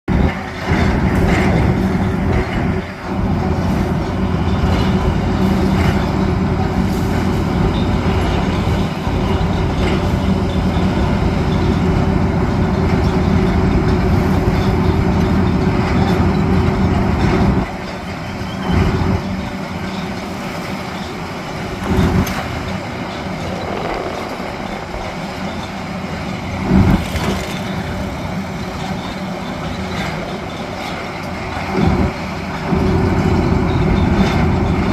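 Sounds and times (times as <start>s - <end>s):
heavy drill rig running: 0.1s - 34.9s.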